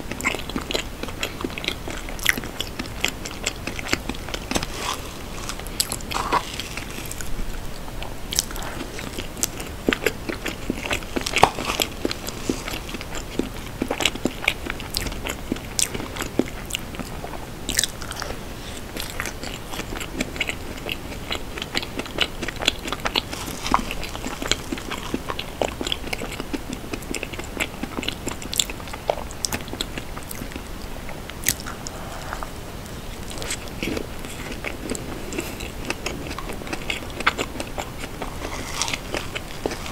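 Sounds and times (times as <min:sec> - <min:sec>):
wet chewing and mouth clicks: 0:00.1 - 0:39.9.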